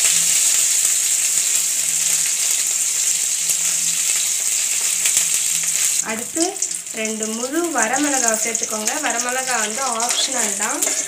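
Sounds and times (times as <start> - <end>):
aromatics sizzling in hot oil: 0.0 - 11.0.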